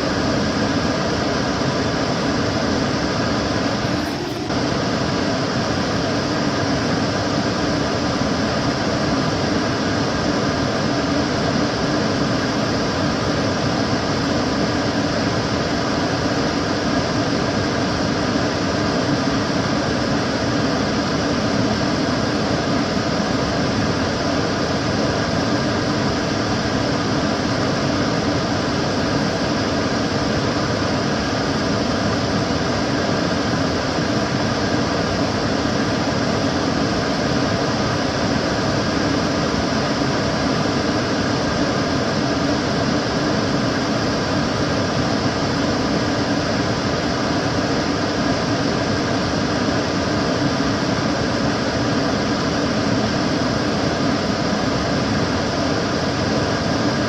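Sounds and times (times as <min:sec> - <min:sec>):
extractor fan running: 0:00.0 - 0:57.0.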